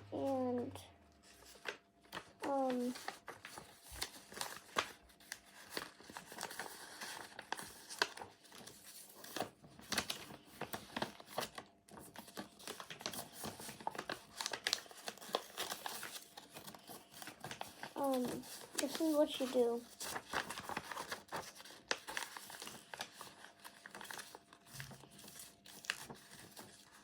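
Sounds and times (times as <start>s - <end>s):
paper being folded and creased: 0.1s - 27.0s.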